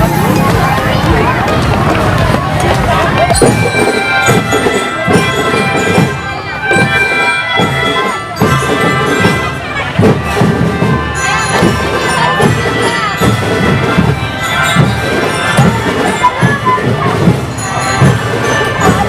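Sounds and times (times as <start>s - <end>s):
drums beating steadily: 0.0s - 19.0s
marching drum band: 0.0s - 19.0s
sustained melody instruments: 0.0s - 19.0s.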